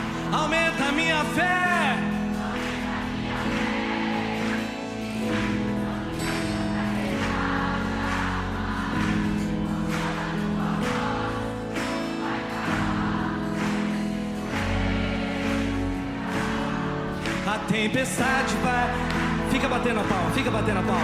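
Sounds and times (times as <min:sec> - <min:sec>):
band playing slow song: 0:00.0 - 0:21.0
voices singing: 0:00.0 - 0:21.0.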